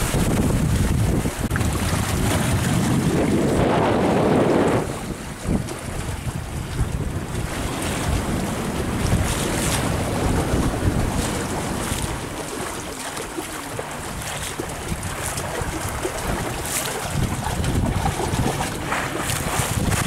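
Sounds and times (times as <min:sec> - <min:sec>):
water rushing along hull: 0:00.0 - 0:20.0
water splashes: 0:00.0 - 0:20.0
wind buffeting microphone: 0:00.0 - 0:20.0.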